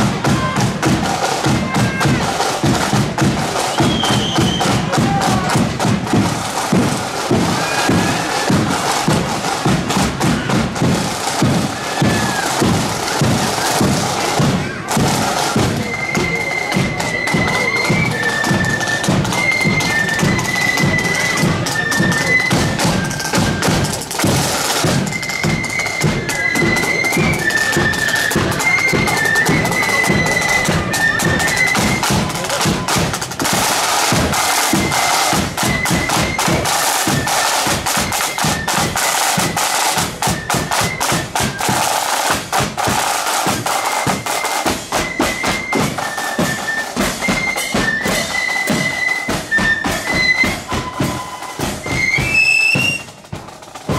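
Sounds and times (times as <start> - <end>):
flutes playing a tune: 0.0 - 53.9
side drums: 0.0 - 53.9
side-drum rolls: 0.0 - 53.9.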